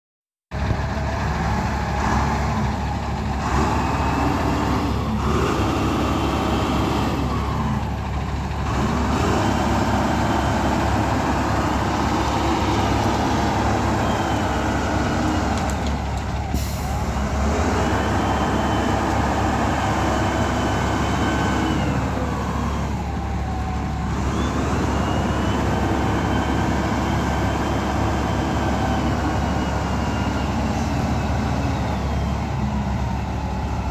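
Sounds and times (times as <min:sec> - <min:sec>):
diesel engine under load: 0:00.5 - 0:33.9.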